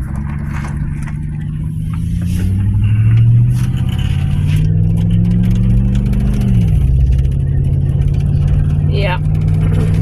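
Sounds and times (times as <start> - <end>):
car engine drone inside cabin: 0.0 - 10.0.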